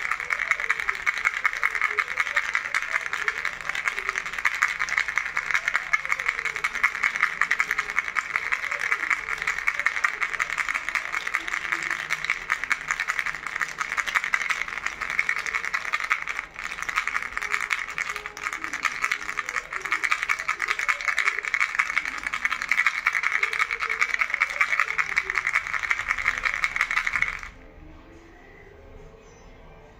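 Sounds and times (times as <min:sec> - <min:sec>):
toy rattle shaken: 0:00.0 - 0:27.6.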